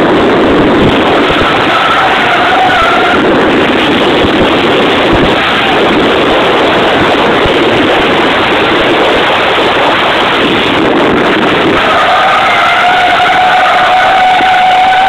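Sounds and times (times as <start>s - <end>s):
rotary engine running hard: 0.0s - 15.0s.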